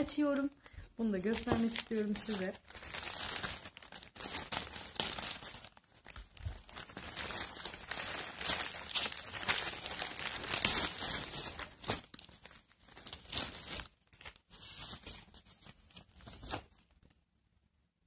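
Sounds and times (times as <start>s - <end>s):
plastic bag tearing and crinkling: 1.2s - 17.1s.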